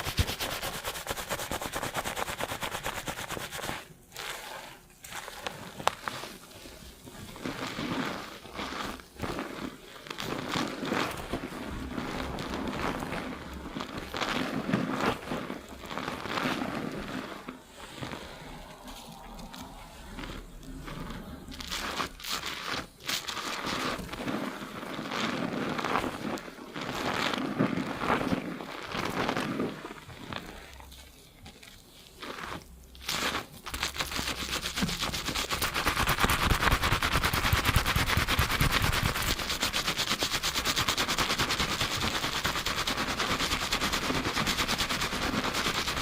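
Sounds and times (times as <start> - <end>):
fingers scrubbing lathered hair: 0.0 - 46.0.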